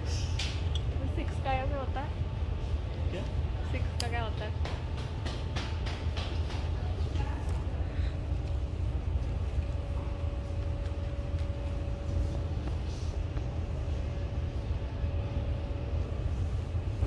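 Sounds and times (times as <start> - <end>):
faint constant hum: 0.0 - 17.0
low shop rumble: 0.0 - 17.0.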